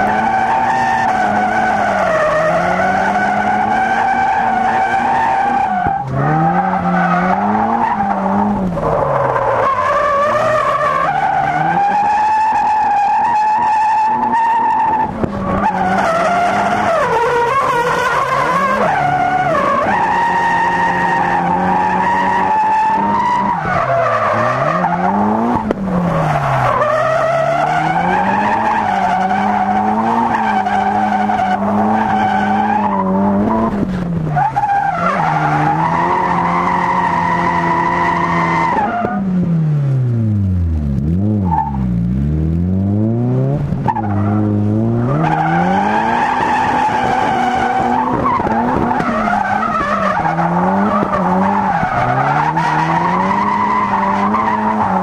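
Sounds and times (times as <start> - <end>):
car engine at high revs: 0.0 - 55.0
tyres skidding: 0.0 - 55.0.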